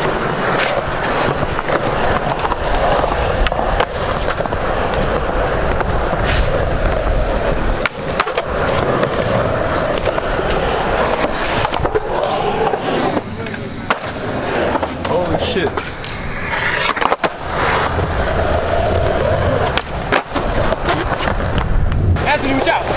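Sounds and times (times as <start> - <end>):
skateboard wheels rolling on concrete: 0.0 - 22.9.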